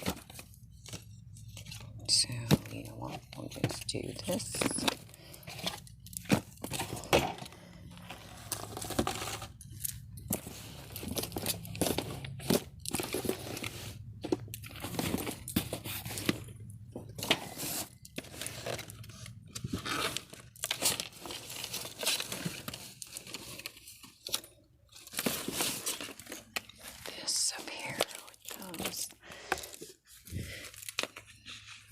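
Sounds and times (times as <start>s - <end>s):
plastic packaging crinkling: 0.0s - 31.9s.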